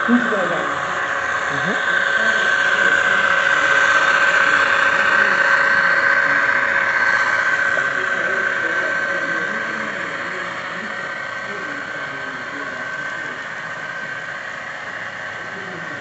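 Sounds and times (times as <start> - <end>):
model train whine and hiss: 0.0 - 16.0.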